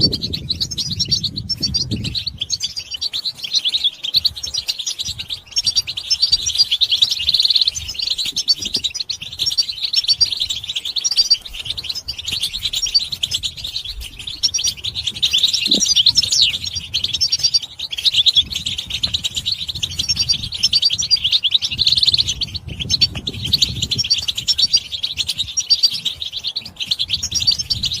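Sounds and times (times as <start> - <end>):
goldfinches twittering: 0.0 - 28.0.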